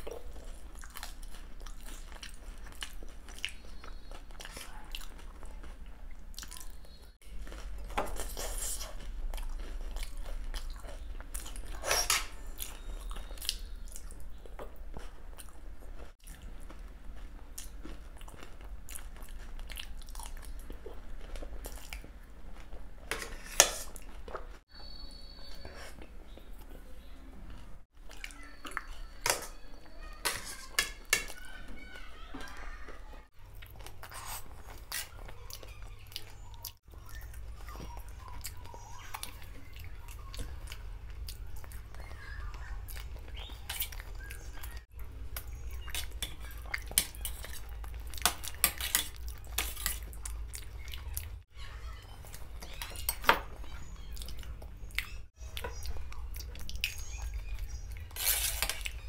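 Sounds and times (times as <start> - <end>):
wet chewing: 0.0 - 24.7, 25.5 - 59.0.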